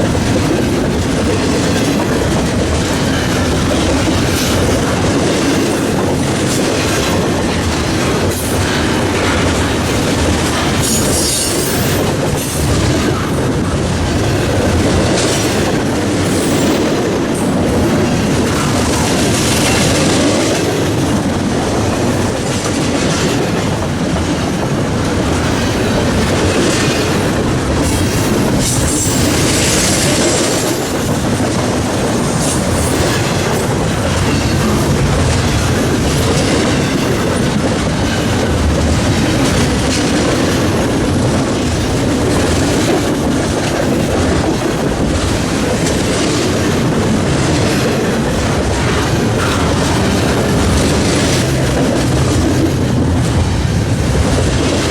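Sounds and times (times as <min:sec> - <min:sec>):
freight train cars rolling past: 0:00.0 - 0:54.9.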